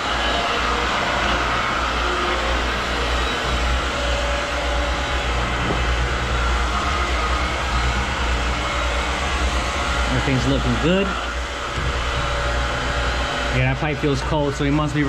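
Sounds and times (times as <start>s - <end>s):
water pumps rumbling and hissing: 0.0s - 15.0s.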